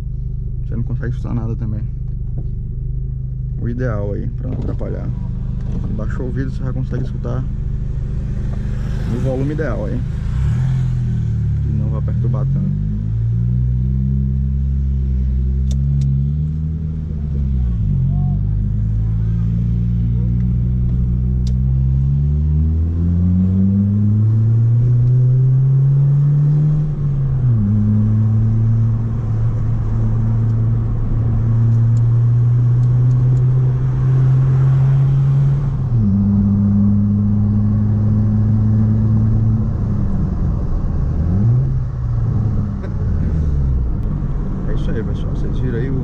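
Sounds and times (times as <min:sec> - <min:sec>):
car exhaust accelerating: 0:00.0 - 0:46.0.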